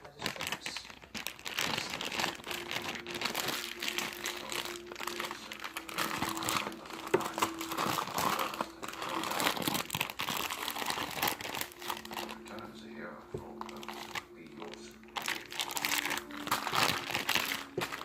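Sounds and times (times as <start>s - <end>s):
slime crackling and popping: 0.0s - 12.7s, 13.3s - 18.0s.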